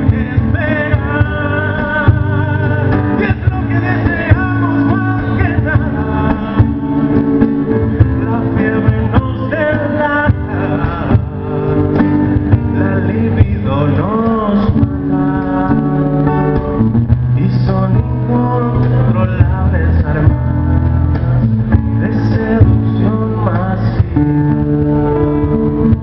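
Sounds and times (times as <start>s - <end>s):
acoustic guitar playing: 0.0s - 26.0s
man singing: 0.0s - 26.0s.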